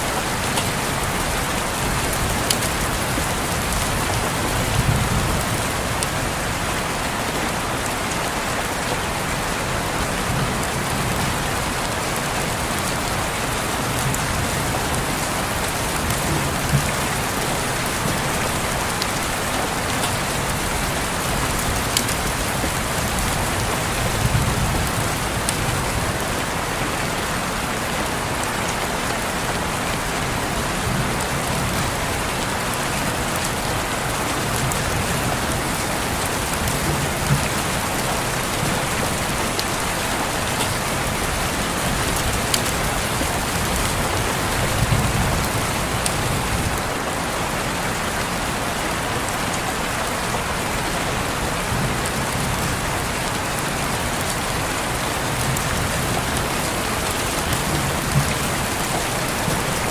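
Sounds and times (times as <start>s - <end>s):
rain on window glass: 0.0s - 59.9s.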